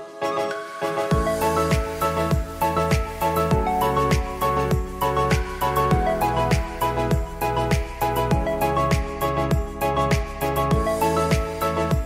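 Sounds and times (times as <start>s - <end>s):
music with kick-drum beat: 0.9s - 12.0s.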